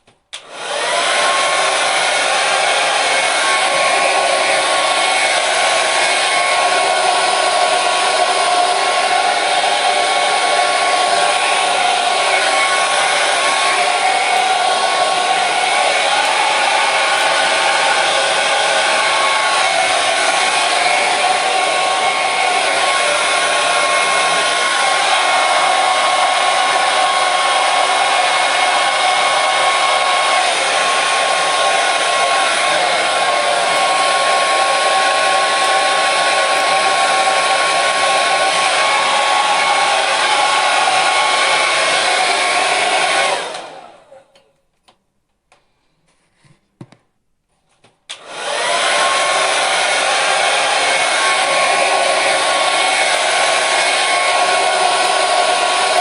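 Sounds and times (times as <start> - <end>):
hair dryer running: 0.4 - 44.4, 48.1 - 56.0.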